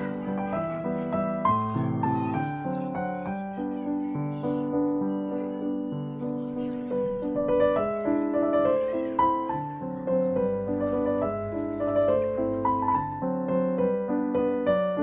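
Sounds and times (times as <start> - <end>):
instrumental piano music: 0.0 - 15.0.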